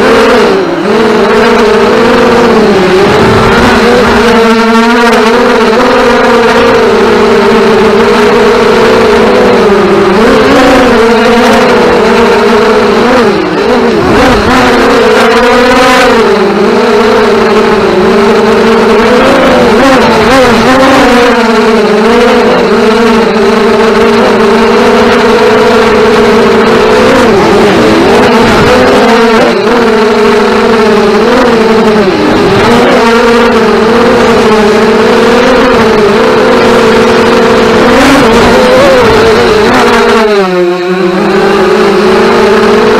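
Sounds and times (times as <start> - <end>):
quadcopter motors whining: 0.0 - 42.9.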